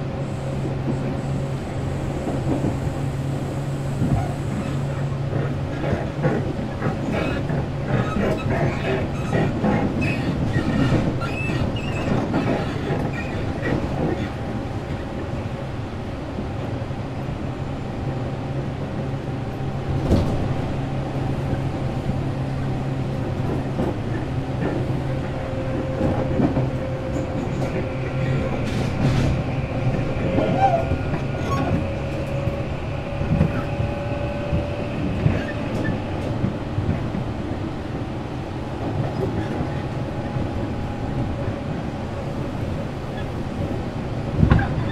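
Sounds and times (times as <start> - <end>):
electric train low hum: 0.0 - 44.9.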